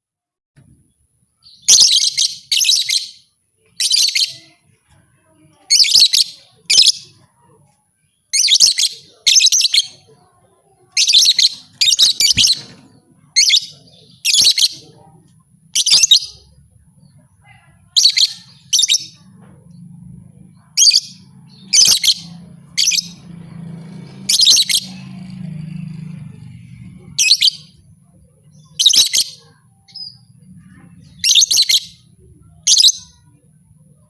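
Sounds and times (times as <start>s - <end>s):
bird chirping: 1.4s - 4.6s, 8.1s - 17.3s, 17.9s - 33.4s.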